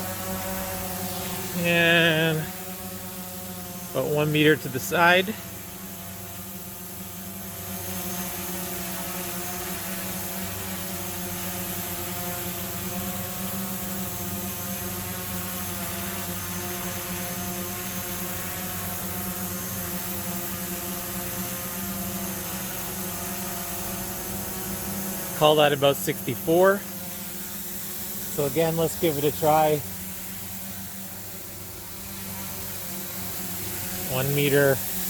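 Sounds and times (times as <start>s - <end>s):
drone hovering buzz: 0.0s - 8.3s, 12.3s - 35.0s.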